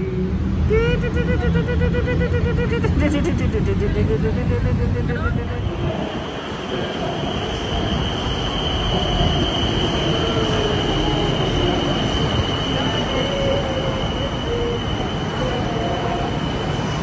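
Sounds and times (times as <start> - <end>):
high-pitched train whine: 0.0 - 17.0
train carriages rumbling: 0.2 - 17.0.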